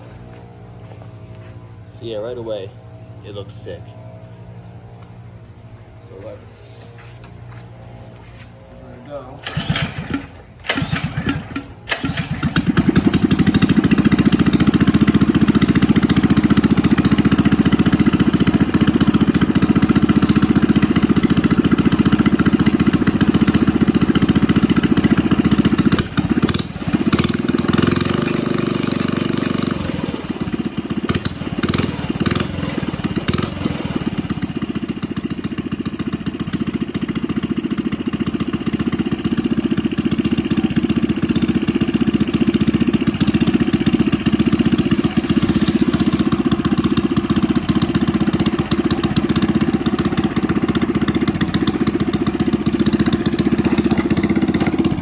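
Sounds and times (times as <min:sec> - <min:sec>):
mini bike engine running loud: 0:09.4 - 0:55.0.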